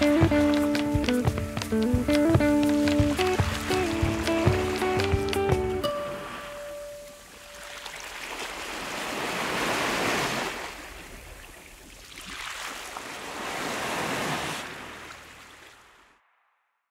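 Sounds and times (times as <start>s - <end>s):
ocean surf washing onto shore: 0.0s - 16.0s.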